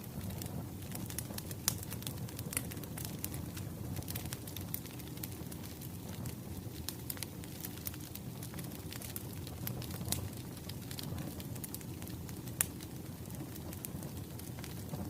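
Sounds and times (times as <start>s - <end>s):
sharp fire pops: 0.0s - 15.0s
wood fire crackling: 0.0s - 15.0s.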